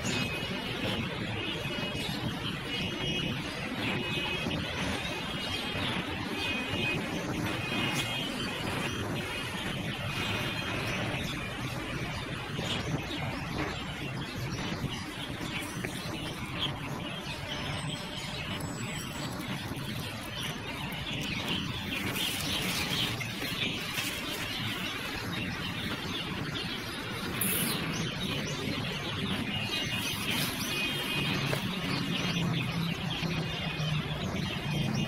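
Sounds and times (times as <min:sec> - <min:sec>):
road traffic rumble: 0:00.0 - 0:35.0
songbirds chirping: 0:00.0 - 0:35.0.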